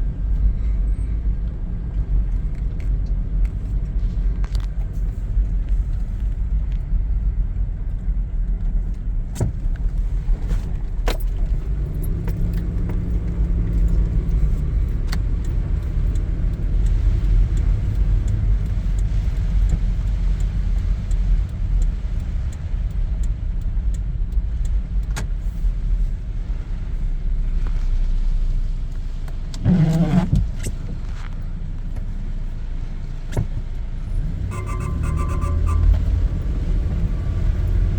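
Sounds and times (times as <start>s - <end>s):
vehicle engine rumble: 0.0s - 37.9s.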